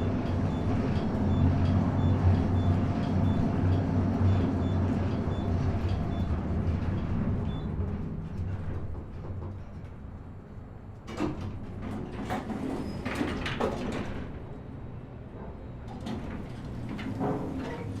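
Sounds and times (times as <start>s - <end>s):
elevator humming: 0.0s - 9.0s, 11.6s - 18.0s
elevator doors clunking: 0.0s - 10.4s, 11.0s - 18.0s.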